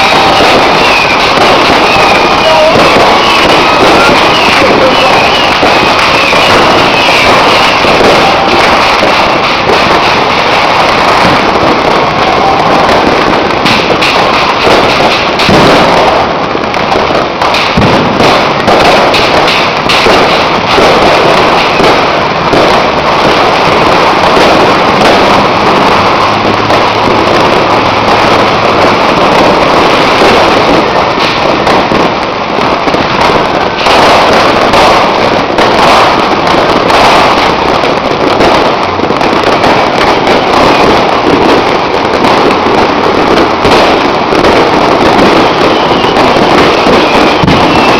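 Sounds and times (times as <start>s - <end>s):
fireworks and firecrackers banging: 0.0s - 47.9s.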